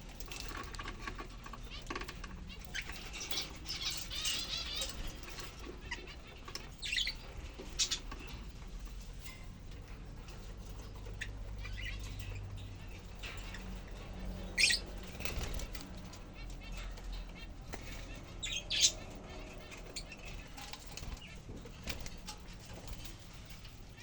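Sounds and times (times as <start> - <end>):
birds flapping and rustling: 0.0 - 24.0.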